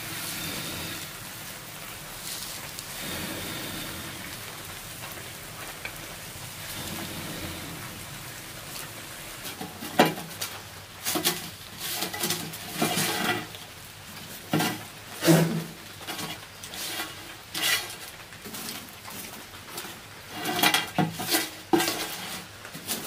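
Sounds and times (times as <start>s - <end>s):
stick scraping in embers: 0.0s - 6.0s, 8.7s - 23.0s.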